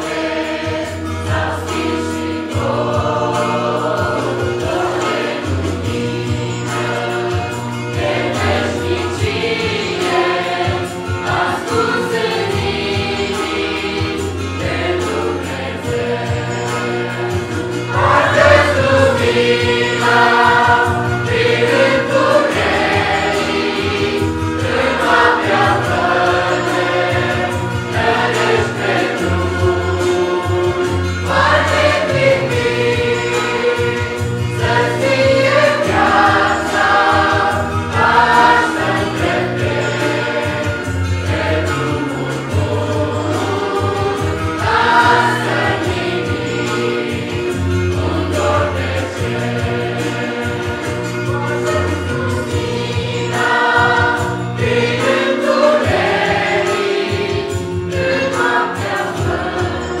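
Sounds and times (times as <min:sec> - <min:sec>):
choir singing: 0:00.0 - 1:00.0
instrumental accompaniment with bass: 0:00.0 - 1:00.0.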